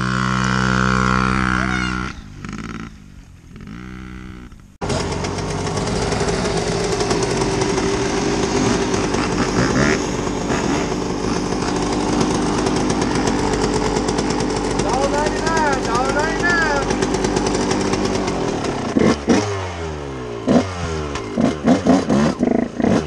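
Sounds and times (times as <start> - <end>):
dirt bike engine revving: 0.0 - 23.0
rough dirt bike engine running: 0.0 - 23.0.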